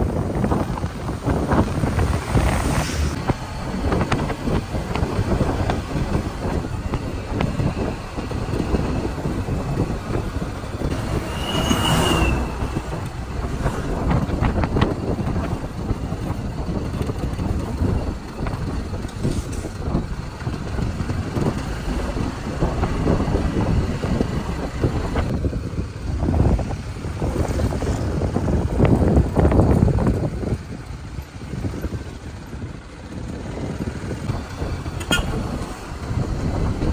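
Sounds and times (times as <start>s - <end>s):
vehicle engine and road rumble: 0.0s - 36.9s.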